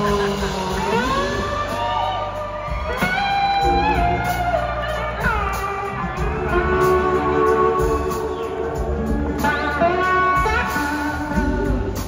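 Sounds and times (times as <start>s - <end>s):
blues-rock band playing: 0.0s - 12.0s
electric slide guitar: 0.0s - 12.0s.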